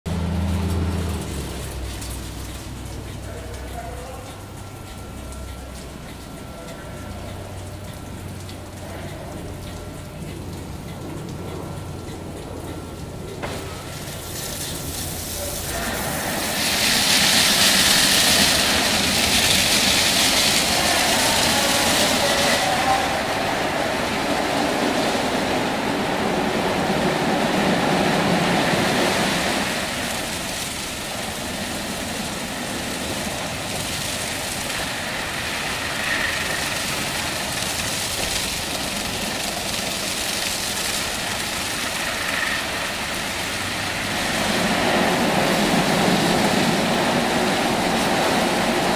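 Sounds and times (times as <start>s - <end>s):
car wash brushes whirring: 0.1s - 48.9s.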